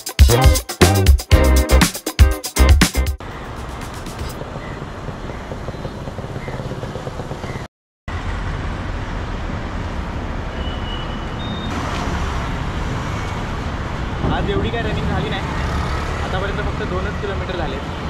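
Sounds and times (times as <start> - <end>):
road traffic rumble: 3.2 - 18.0.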